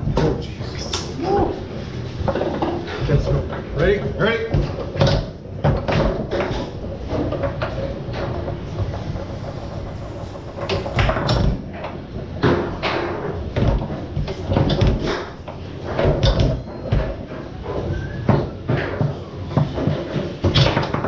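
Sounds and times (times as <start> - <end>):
foosball ball clacking: 2.2 - 21.0.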